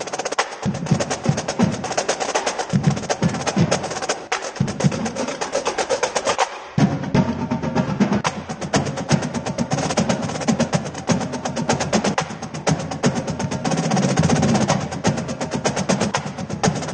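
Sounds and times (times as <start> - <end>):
snare drum rolls: 0.0 - 16.9.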